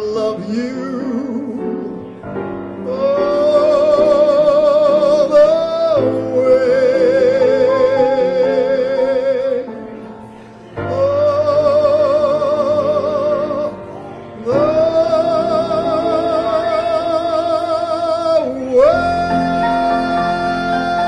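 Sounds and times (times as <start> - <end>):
man singing with vibrato: 0.0 - 21.0
musical accompaniment: 0.0 - 21.0.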